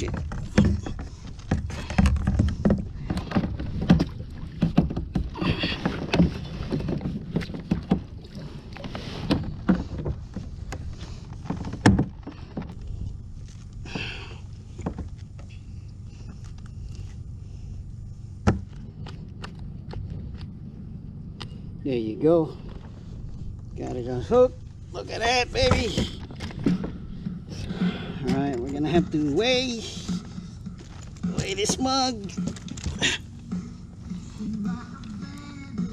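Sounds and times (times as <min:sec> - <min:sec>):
low rumble: 0:00.0 - 0:35.9.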